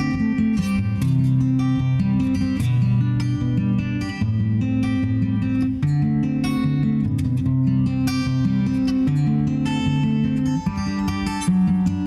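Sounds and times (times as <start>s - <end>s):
guitar strummed and plucked: 0.0s - 12.0s.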